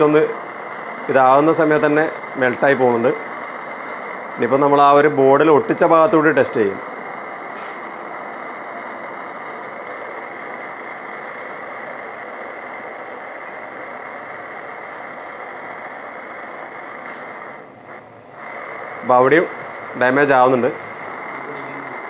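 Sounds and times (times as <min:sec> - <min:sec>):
charcoal fire burning: 0:00.0 - 0:22.0.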